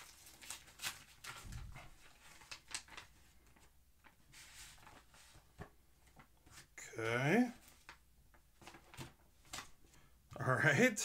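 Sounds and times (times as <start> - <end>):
envelope rustling and crinkling: 0.0 - 6.7, 7.5 - 10.0.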